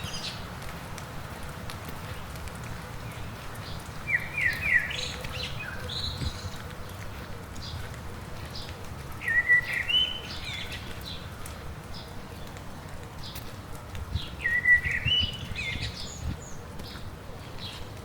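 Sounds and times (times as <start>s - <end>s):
light rain hiss: 0.0s - 18.0s
songbird singing: 3.0s - 12.6s, 13.2s - 18.0s.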